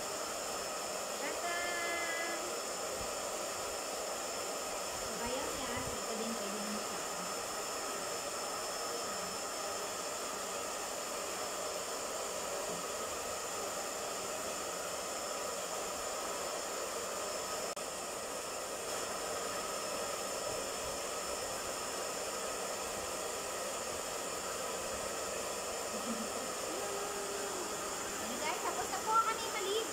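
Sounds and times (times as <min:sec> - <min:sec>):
hair dryer running: 0:00.0 - 0:29.9.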